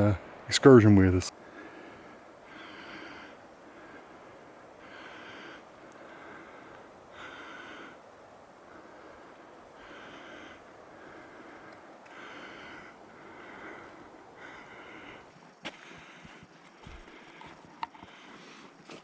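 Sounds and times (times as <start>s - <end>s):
man breathing heavily: 1.3s - 19.0s.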